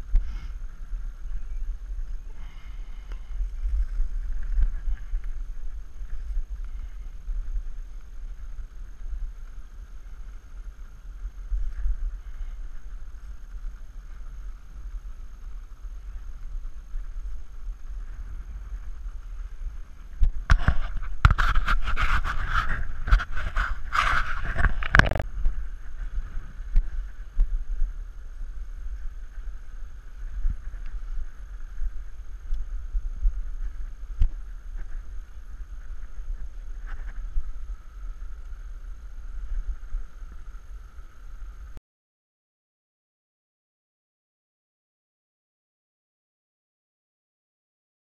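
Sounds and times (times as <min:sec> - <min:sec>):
wind rumbling on microphone: 0:00.0 - 0:41.8.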